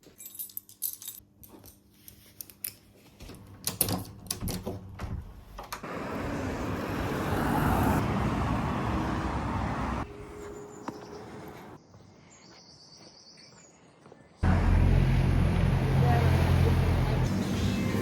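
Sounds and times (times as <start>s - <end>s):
outdoor traffic noise: 0.4s - 12.2s, 14.0s - 18.0s.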